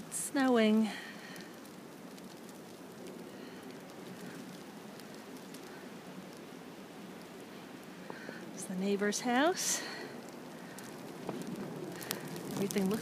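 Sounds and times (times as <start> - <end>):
faint steady hiss: 0.0 - 13.0
snow ticking on surfaces: 0.0 - 13.0.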